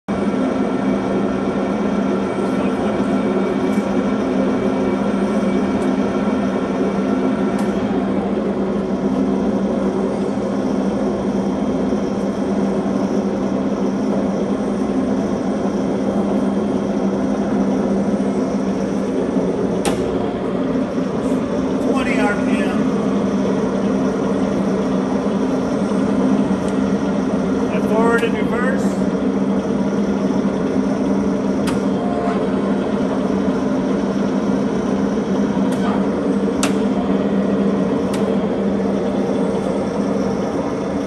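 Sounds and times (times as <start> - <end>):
high-pitched lathe whine: 0.1 - 41.0
lathe motor hum: 0.1 - 41.0.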